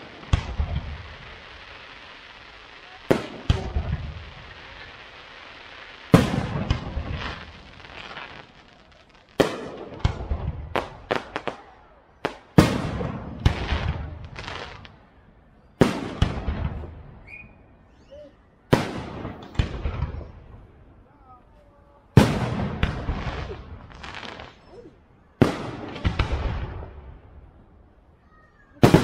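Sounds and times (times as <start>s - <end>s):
fireworks bursting with echo: 0.0s - 29.0s.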